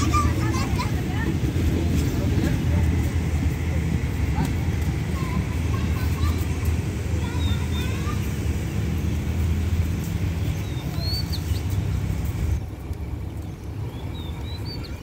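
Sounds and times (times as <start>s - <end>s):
birds chirping: 0.0s - 15.0s
train engine rumble: 0.0s - 15.0s.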